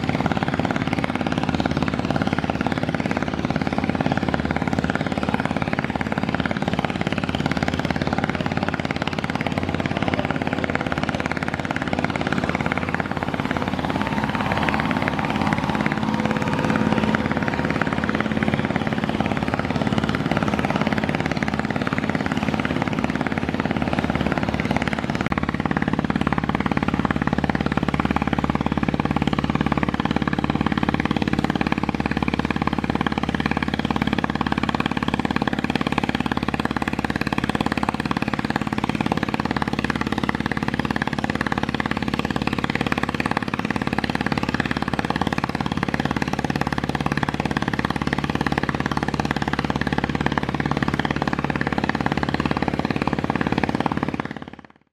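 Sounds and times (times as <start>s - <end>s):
boat diesel engines droning: 0.0s - 54.9s.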